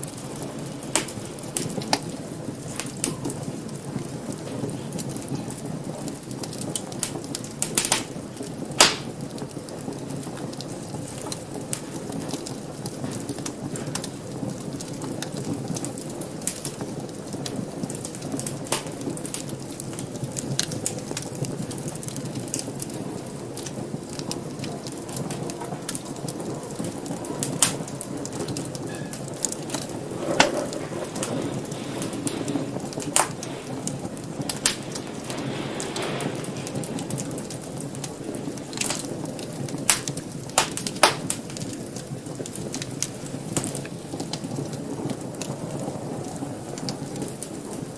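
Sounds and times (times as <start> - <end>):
fire crackling in fireplace: 0.0 - 47.9.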